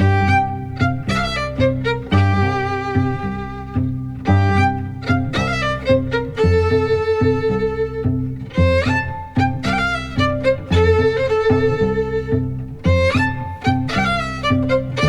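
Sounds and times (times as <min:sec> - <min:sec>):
bowed string melody: 0:00.0 - 0:15.0.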